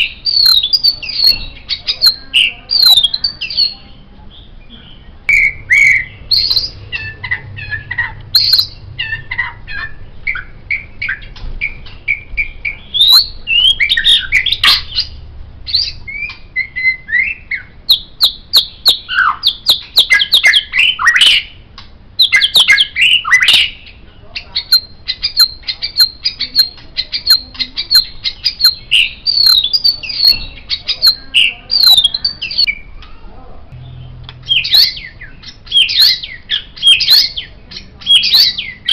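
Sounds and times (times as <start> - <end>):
songbird singing whistled phrases: 0.0 - 3.8, 4.4 - 21.6, 22.2 - 32.9, 34.0 - 38.9.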